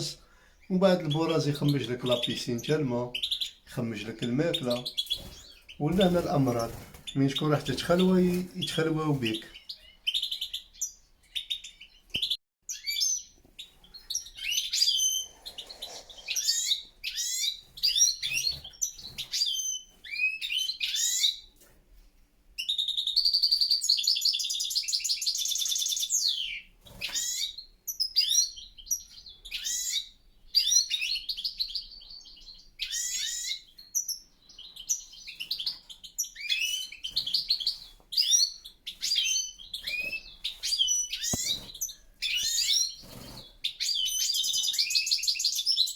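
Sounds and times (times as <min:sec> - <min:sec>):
finches chirping and singing: 0:00.0 - 0:21.4, 0:22.6 - 0:45.9.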